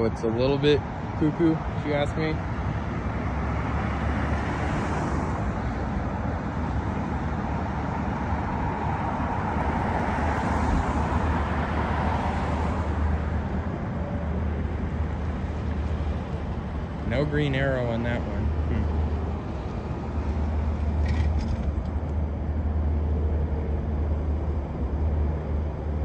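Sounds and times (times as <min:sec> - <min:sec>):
cars driving past: 0:00.0 - 0:26.0
steady low traffic rumble: 0:00.0 - 0:26.0.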